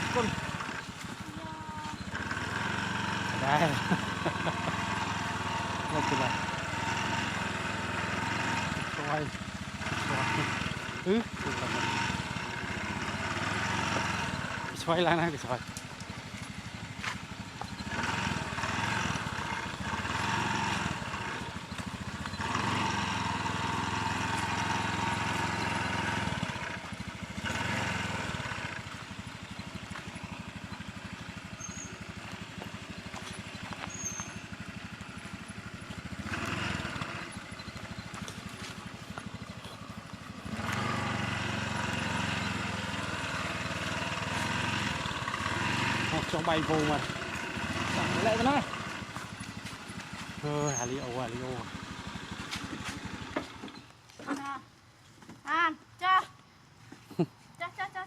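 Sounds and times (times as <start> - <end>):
small motorcycle engine running: 0.0 - 54.7.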